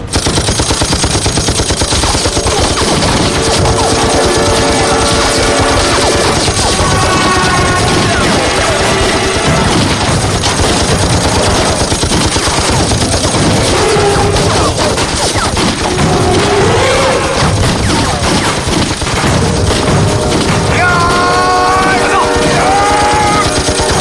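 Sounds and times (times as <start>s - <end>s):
machine-gun and rifle fire: 0.0s - 24.0s.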